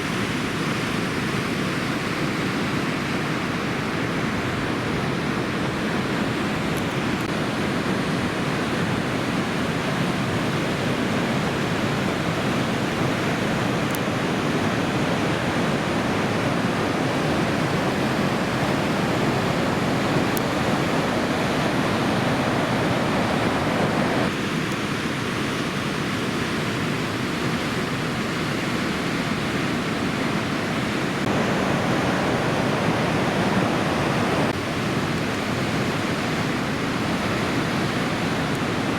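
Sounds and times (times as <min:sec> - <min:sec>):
ocean surf rushing: 0:00.0 - 0:38.9.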